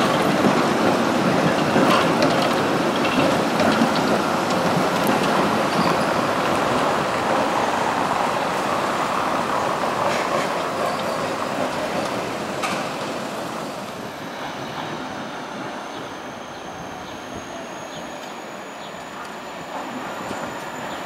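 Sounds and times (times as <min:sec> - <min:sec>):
tram rolling on rails: 0:00.0 - 0:21.0.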